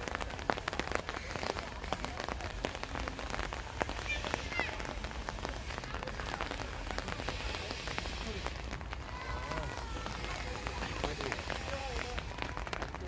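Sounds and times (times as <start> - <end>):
raindrops tapping: 0.0 - 13.0
steady rain falling: 0.0 - 13.0.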